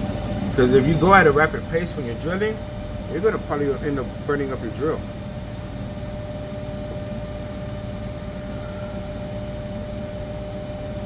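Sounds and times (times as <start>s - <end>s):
lathe machine hum and whine: 0.0s - 11.0s.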